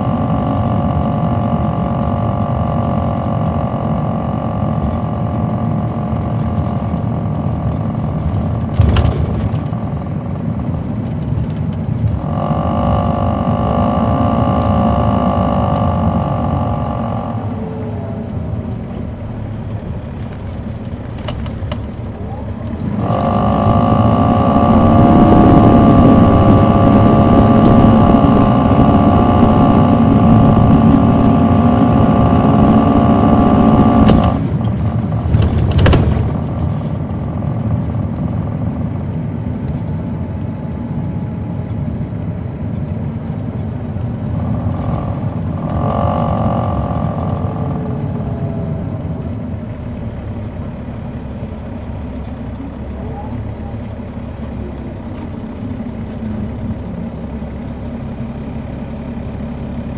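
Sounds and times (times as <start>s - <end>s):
bus diesel engine: 0.0s - 59.9s
steady whine: 0.0s - 59.9s.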